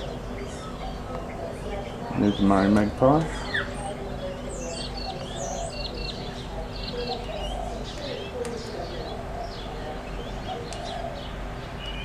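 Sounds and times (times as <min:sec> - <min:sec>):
birds chirping: 0:00.0 - 0:12.0
lower warbling bird calls: 0:00.0 - 0:12.0.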